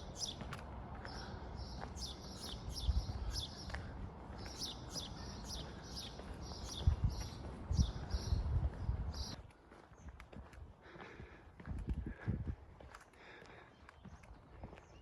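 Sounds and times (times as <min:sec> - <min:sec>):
small birds chirping: 0:00.0 - 0:10.4, 0:12.8 - 0:15.0.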